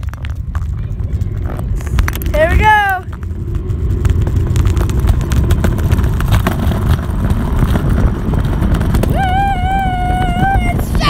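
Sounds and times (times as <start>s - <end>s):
scooter wheels rolling on asphalt: 0.0s - 11.0s.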